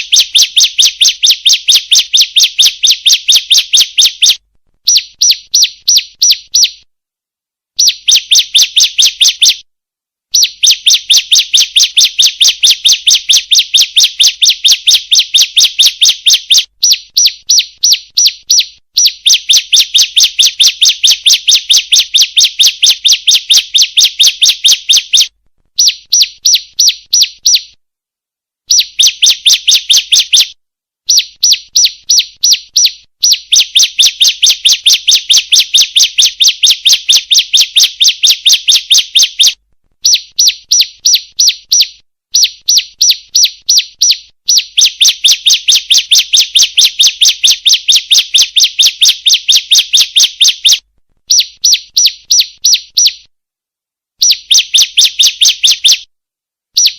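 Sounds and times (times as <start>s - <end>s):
bird high chirps: 0.0s - 6.9s, 7.8s - 9.7s, 10.3s - 27.8s, 28.7s - 53.3s, 54.2s - 56.1s.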